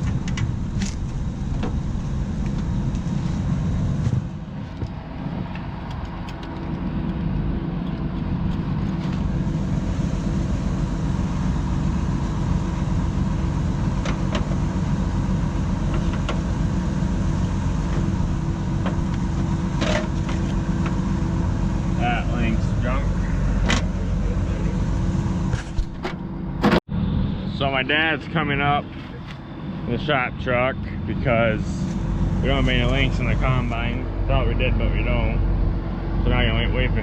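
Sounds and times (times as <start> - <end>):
combine engine rumbling: 0.0 - 37.0.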